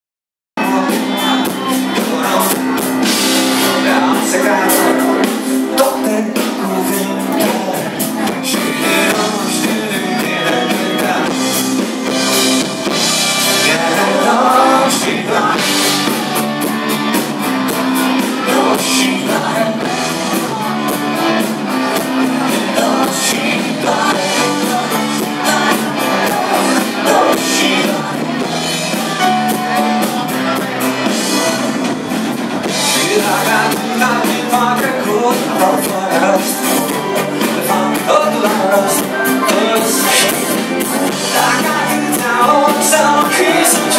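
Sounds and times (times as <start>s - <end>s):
live rock band playing: 0.6s - 43.9s
person singing: 0.6s - 43.9s.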